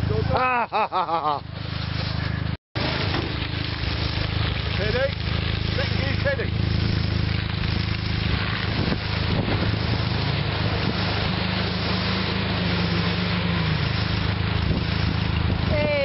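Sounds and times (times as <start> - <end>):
car engines humming: 0.0 - 16.0
engine revving pulling away: 1.3 - 16.0.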